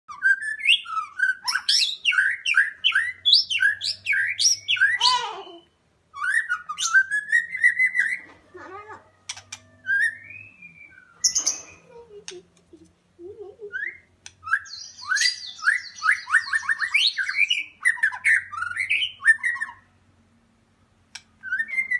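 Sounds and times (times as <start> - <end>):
songbird whistling song: 0.1 - 12.4, 13.6 - 19.9, 21.1 - 21.9
soft bird calls: 0.1 - 20.0.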